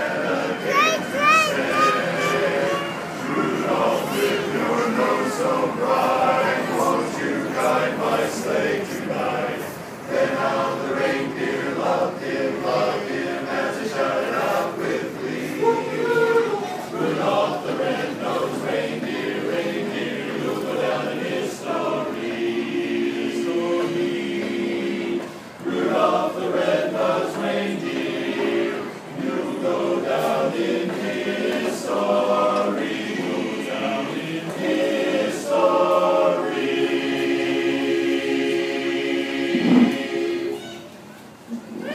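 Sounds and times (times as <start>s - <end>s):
choir singing a cappella: 0.0s - 40.7s.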